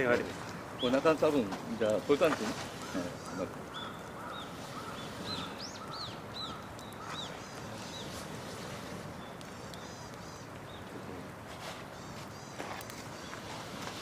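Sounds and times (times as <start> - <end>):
outdoor background hiss: 0.0 - 14.0
small birds chirping: 0.0 - 14.0.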